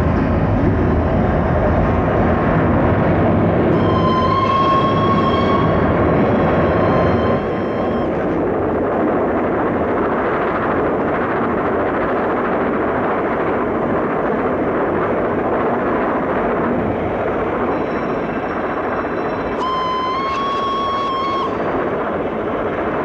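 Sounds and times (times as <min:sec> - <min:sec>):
steam locomotive running: 0:00.0 - 0:23.0.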